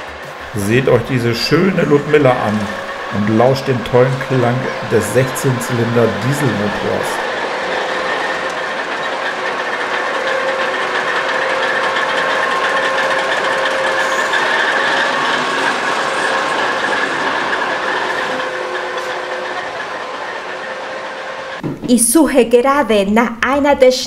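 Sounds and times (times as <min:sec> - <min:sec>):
diesel locomotive engine droning: 0:00.0 - 0:22.9.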